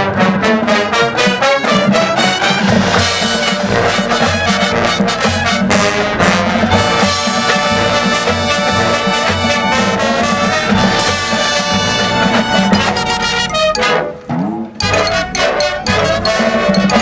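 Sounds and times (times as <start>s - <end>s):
brass section playing chords: 0.0s - 17.0s
marching drum strikes: 0.0s - 17.0s.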